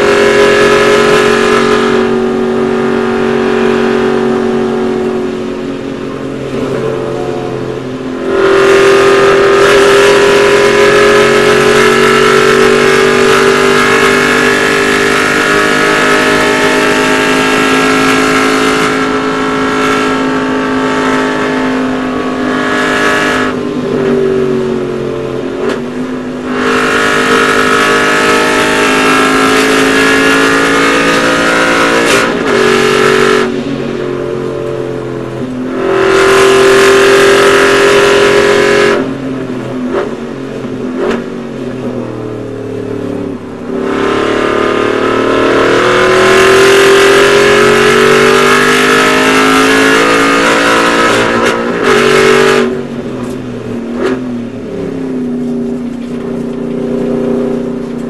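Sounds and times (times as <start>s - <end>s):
race car engine at full throttle: 0.0s - 58.0s.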